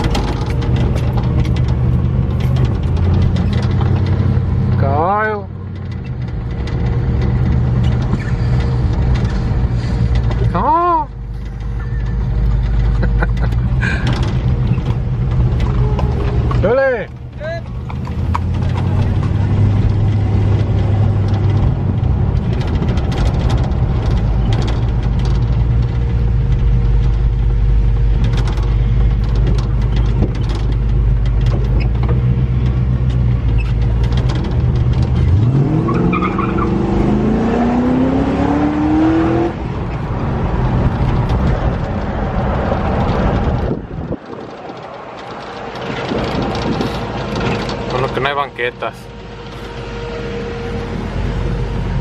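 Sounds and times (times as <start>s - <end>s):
vehicle engine accelerating: 0.0s - 52.0s.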